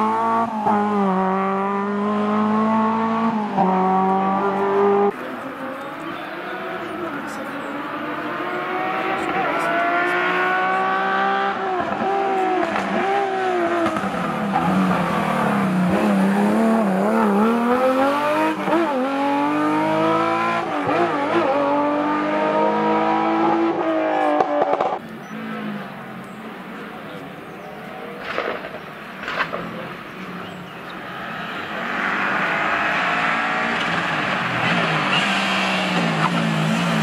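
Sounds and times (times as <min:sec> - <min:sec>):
rally car engine accelerating: 0:00.0 - 0:37.0.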